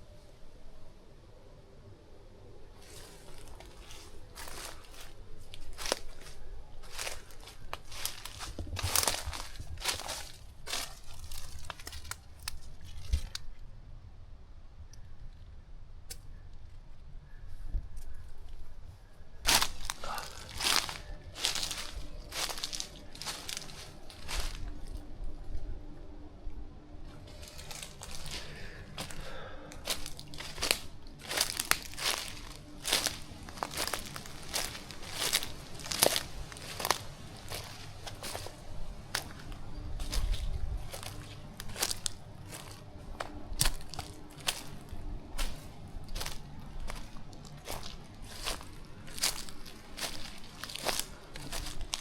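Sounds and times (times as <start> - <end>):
footsteps crunching dry ground cover: 2.6 - 13.6, 17.3 - 52.0.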